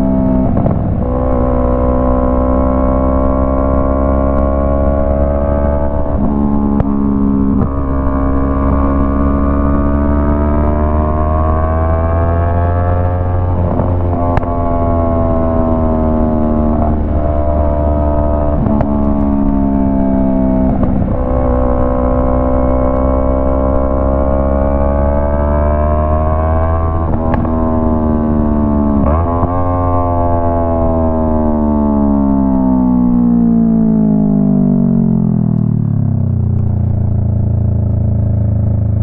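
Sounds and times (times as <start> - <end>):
loud motorcycle engine: 0.0 - 39.0.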